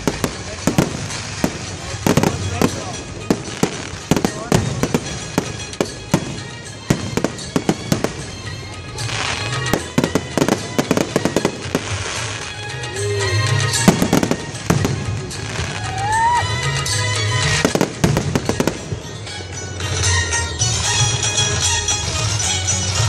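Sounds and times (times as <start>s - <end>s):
fireworks bangs: 0.0s - 21.4s
fireworks crackling: 0.0s - 23.0s.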